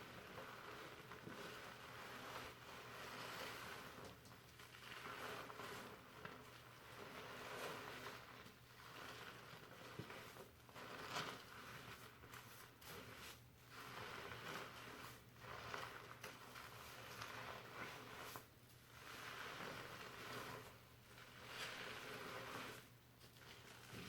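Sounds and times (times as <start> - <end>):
shampoo lather rustling in hair: 0.0 - 24.0.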